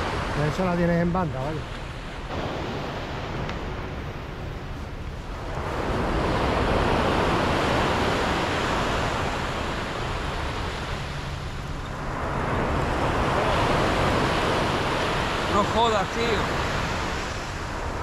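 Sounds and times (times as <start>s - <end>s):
sea surf breaking on beach: 0.0s - 18.0s.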